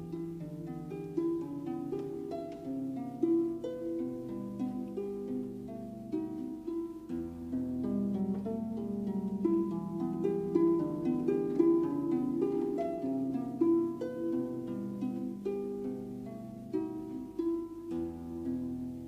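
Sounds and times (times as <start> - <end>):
plucked notes over held tones: 0.0 - 19.0.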